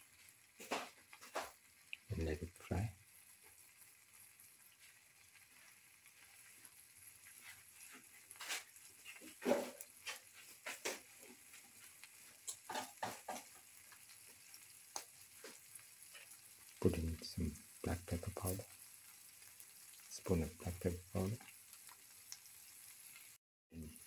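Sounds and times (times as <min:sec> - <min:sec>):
clam meat frying in oil: 0:00.0 - 0:24.0.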